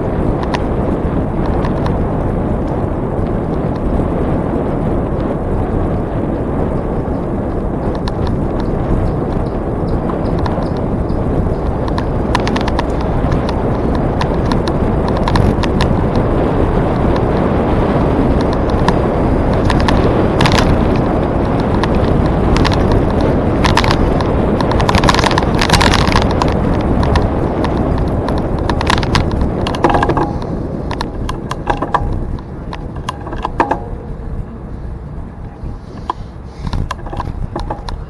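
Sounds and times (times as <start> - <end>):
bicycle clicks and rattles: 0.0 - 38.0
wind rushing over microphone: 0.0 - 38.0.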